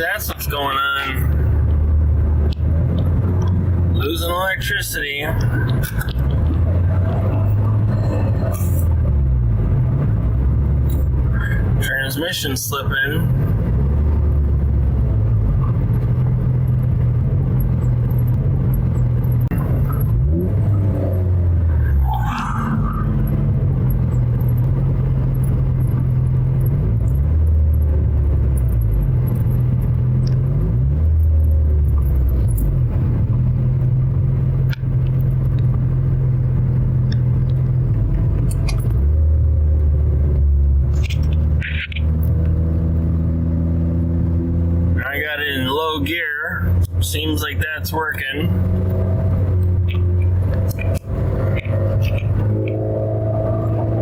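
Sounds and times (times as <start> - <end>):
car engine droning inside cabin: 0.0 - 54.0.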